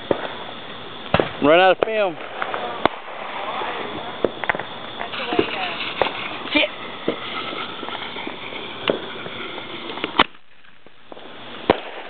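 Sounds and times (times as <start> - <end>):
firecrackers popping: 0.0 - 12.0.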